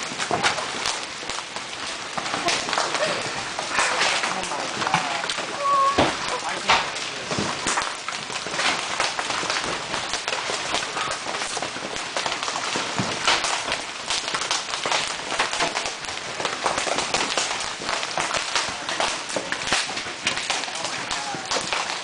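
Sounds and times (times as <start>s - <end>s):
hailstones clattering: 0.0s - 22.0s
heavy rain: 0.0s - 22.0s.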